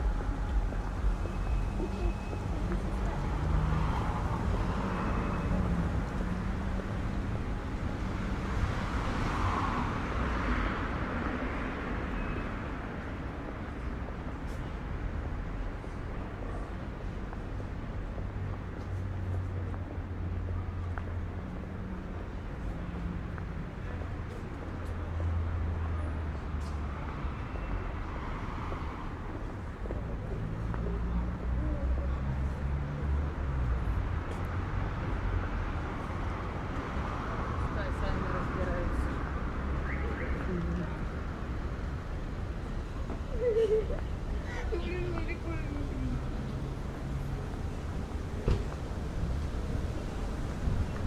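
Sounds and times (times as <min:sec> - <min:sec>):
vehicles passing on road: 0:00.0 - 0:51.0.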